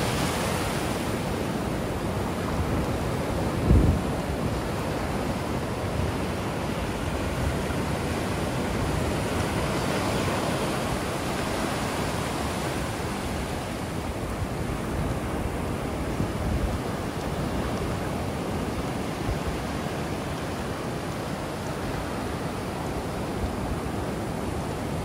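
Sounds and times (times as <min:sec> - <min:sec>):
ocean surf breaking: 0:00.0 - 0:25.0
wind rumbling on microphone: 0:00.0 - 0:25.0.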